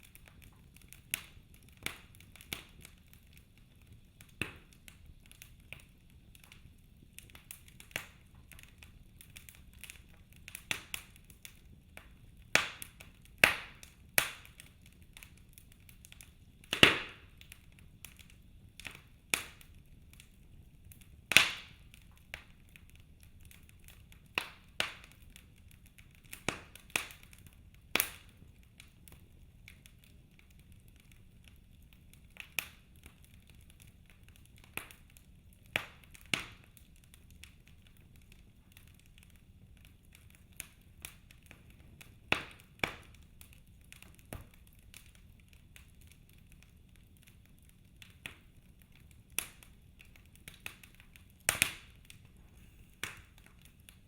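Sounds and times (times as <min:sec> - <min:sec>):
logs crackling and popping: 0:00.0 - 0:54.0
low hiss of flames: 0:00.0 - 0:54.0.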